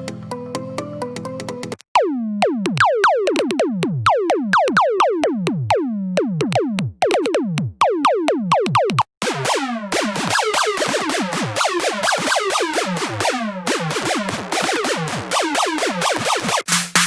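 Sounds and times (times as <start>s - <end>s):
rhythmic pitch-dropping synth hits: 1.9s - 17.0s
stepping synth melody: 2.0s - 17.0s.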